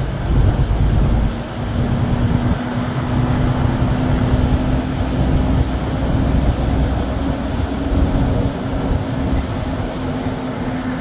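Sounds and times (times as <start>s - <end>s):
constant low hum: 0.0s - 11.0s
vehicle engine and road rumble: 0.0s - 11.0s.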